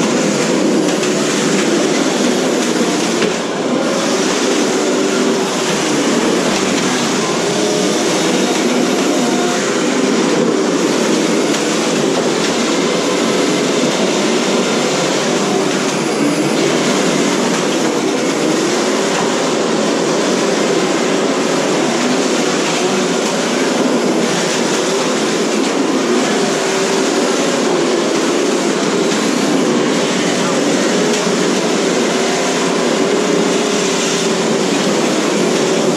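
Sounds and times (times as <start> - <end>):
steady clatter: 0.0 - 35.9.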